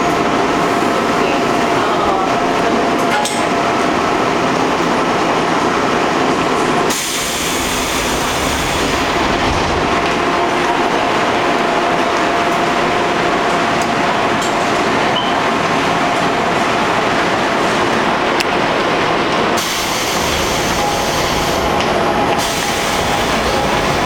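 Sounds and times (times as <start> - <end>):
subway train rush and rumble: 0.0 - 24.0.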